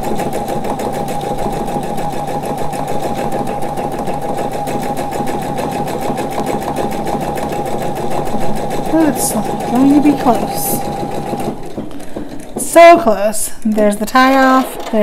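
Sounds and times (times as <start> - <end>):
sewing machine stitching: 0.0 - 13.1, 14.1 - 15.0.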